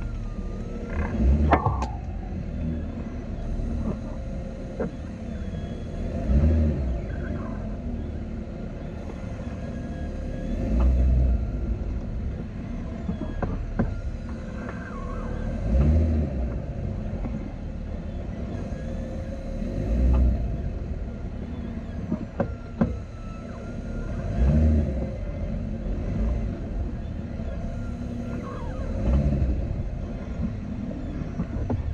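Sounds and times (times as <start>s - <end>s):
car engine rumbling: 0.0s - 31.9s.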